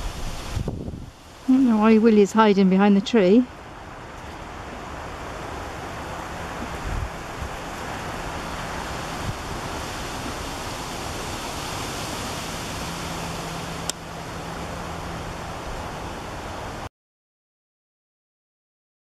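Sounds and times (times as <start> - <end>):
wind rushing over microphone: 0.0 - 16.9.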